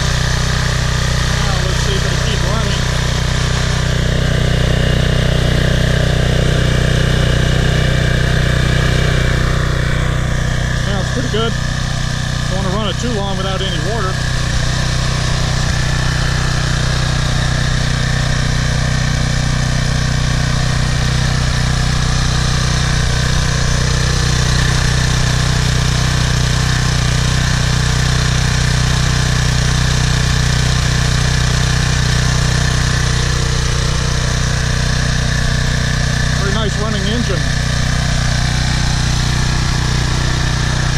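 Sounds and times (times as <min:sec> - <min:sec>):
pressure washer engine running: 0:00.0 - 0:40.9.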